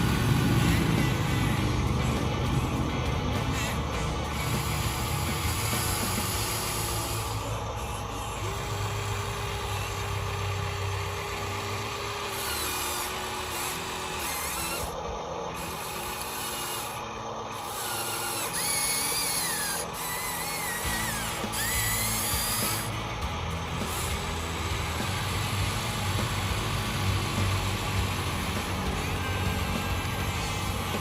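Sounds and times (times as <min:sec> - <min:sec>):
small electric gear motors whining: 0:00.0 - 0:31.0.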